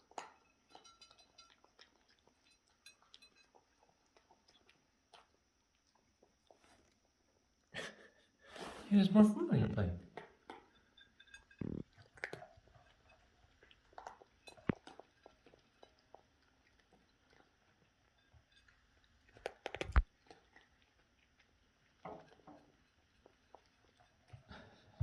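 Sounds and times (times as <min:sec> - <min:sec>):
cat chewing food: 0:00.0 - 0:07.4, 0:11.6 - 0:25.0.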